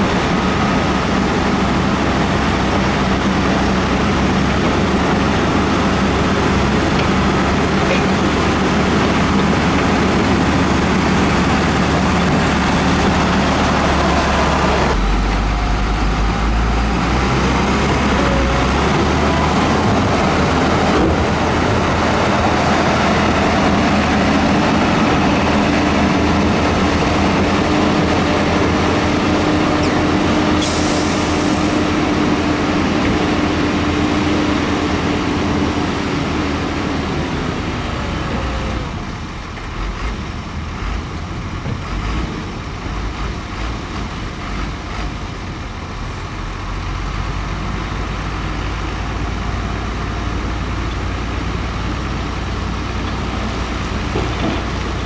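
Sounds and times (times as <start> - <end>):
diesel machinery engine running: 0.0 - 55.0.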